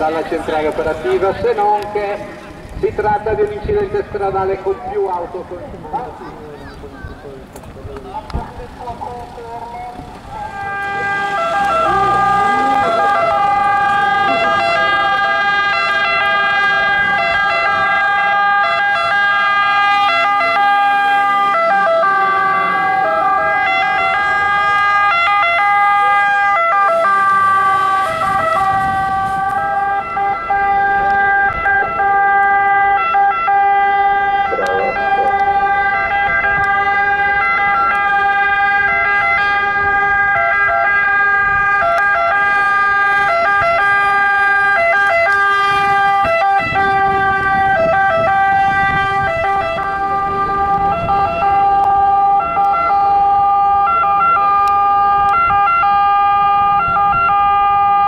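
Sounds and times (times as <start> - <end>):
two-tone sirens wailing: 0.0 - 7.5, 8.2 - 58.0.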